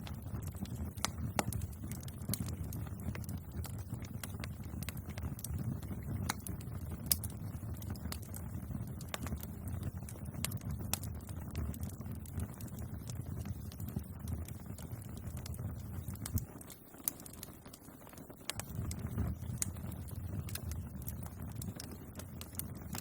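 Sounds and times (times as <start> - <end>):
bonfire crackling: 0.0 - 23.0
low rumble of fire: 0.0 - 23.0.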